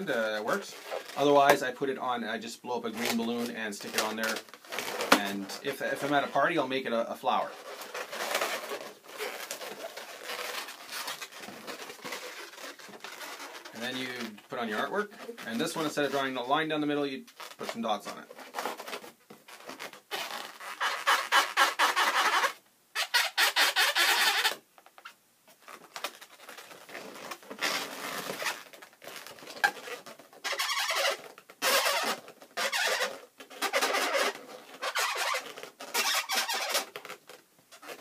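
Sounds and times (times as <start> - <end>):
marker pen squeaking on balloons: 0.0 - 1.3, 3.0 - 6.6, 7.3 - 16.3, 17.3 - 38.0.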